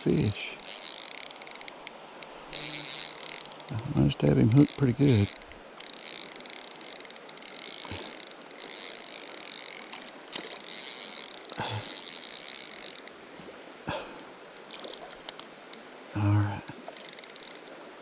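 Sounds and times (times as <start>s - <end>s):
fishing reel gear whir: 0.0s - 13.2s, 14.6s - 17.7s.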